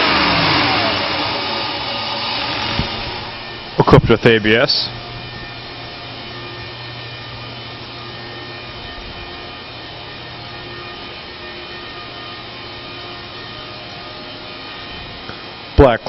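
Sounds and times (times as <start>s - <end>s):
faint steady tones: 0.0s - 16.0s
steady mechanical hum: 0.0s - 16.0s.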